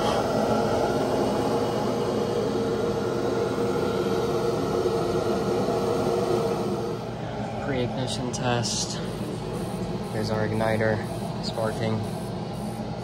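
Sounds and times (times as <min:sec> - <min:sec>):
boiler blower humming: 0:00.0 - 0:13.0.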